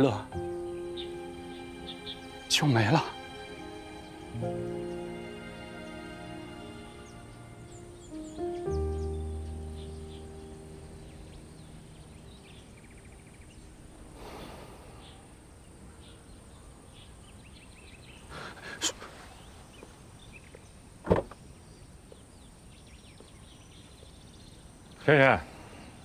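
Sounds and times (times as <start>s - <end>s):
faint bird chirps: 0.0s - 3.0s, 7.0s - 26.0s.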